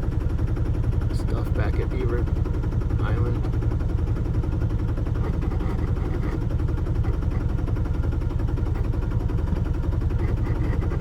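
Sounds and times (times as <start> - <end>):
boat engine pulsing drone: 0.0 - 11.0.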